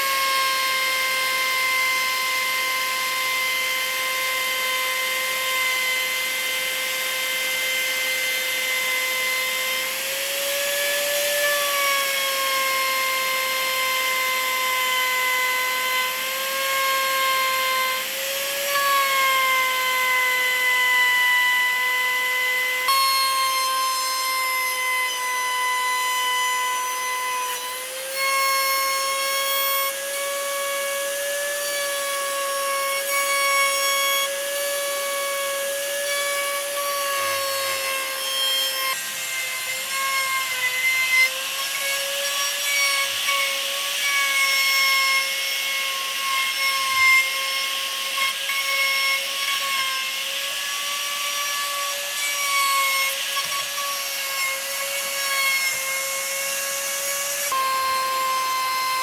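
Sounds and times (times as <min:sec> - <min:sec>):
power tool motor whine: 0:00.0 - 0:59.0.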